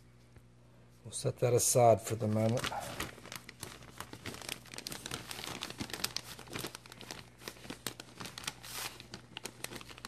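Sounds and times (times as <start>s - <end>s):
plastic bag crinkling and rustling: 1.7s - 10.0s.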